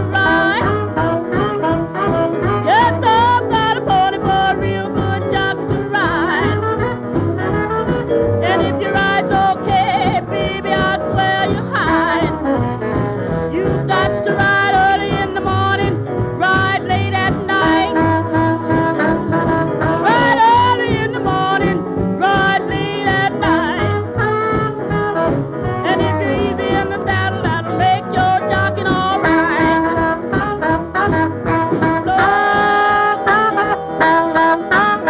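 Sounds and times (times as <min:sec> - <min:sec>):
song with singing voice: 0:00.0 - 0:35.0.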